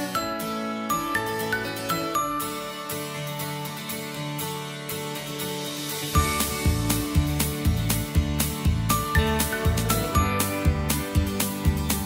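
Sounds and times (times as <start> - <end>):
music with steady beat and melody: 0.0 - 12.0.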